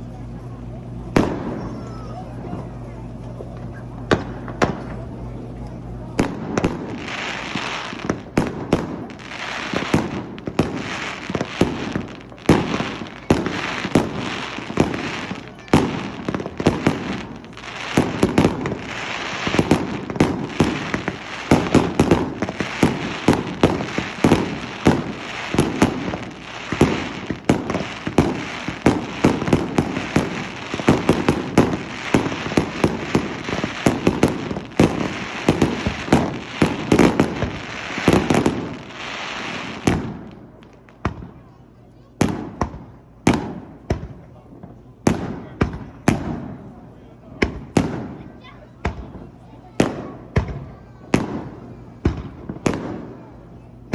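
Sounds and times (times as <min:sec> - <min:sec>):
fireworks bursting: 0:00.0 - 0:41.4, 0:42.2 - 0:46.8, 0:47.4 - 0:53.9.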